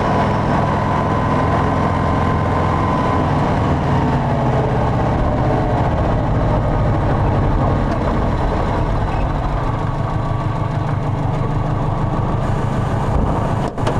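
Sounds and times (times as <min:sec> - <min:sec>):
car engine running steadily: 0:00.0 - 0:13.9.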